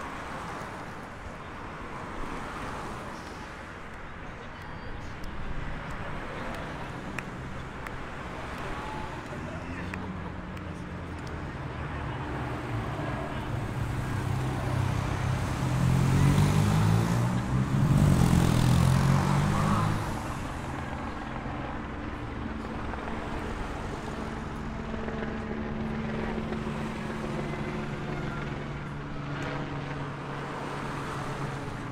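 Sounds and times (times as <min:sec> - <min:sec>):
motor vehicles passing: 0:00.0 - 0:31.9.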